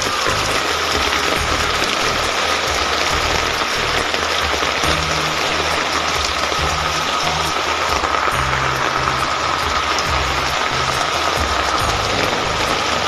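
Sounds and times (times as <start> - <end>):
background music with bass: 0.0 - 13.0
hail pelting the ground: 0.0 - 13.0.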